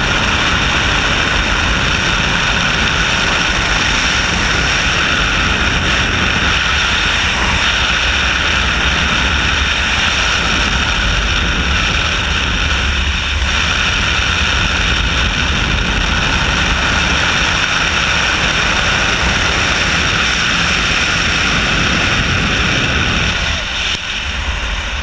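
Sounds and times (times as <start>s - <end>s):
rushing airflow over camera: 0.0s - 25.0s.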